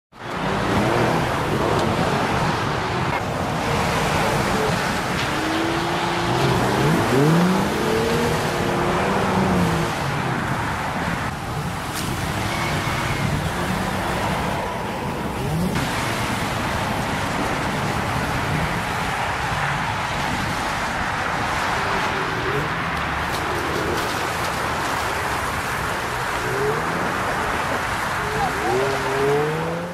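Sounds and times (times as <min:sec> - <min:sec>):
steady rushing noise: 0:00.2 - 0:29.9
car engine revving: 0:00.3 - 0:29.9.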